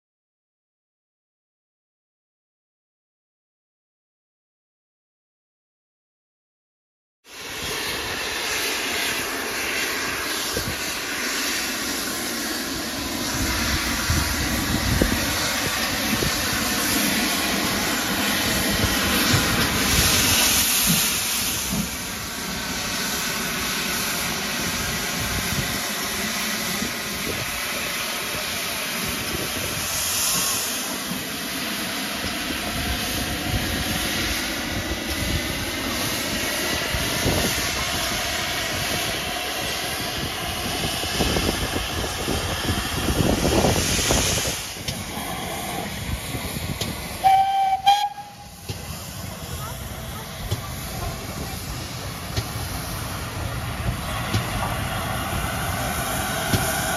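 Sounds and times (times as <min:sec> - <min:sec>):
steam locomotive hissing: 0:07.3 - 0:56.9.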